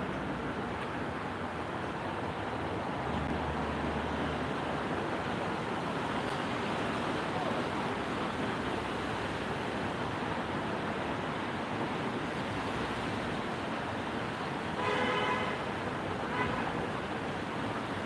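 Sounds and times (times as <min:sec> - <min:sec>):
tyres swishing on wet road: 0:00.0 - 0:18.0.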